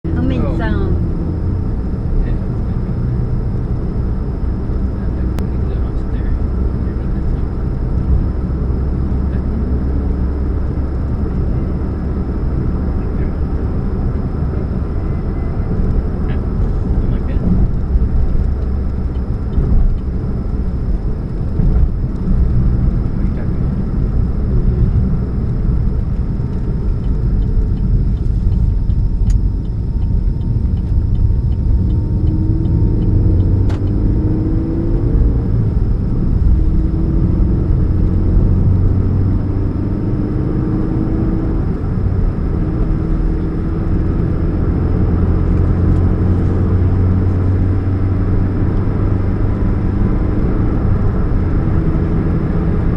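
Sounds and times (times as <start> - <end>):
car engine humming: 0.0 - 52.9.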